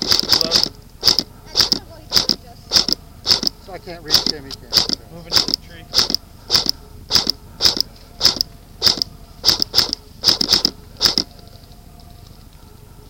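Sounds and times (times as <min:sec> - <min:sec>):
crunching footsteps: 0:00.0 - 0:13.0.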